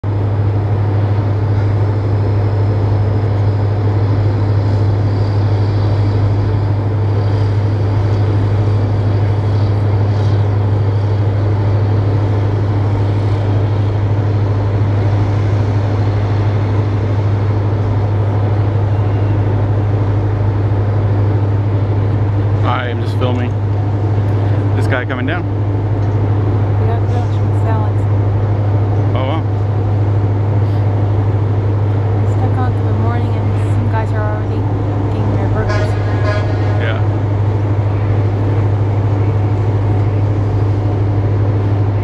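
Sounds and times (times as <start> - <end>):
large engine droning: 0.0 - 42.0.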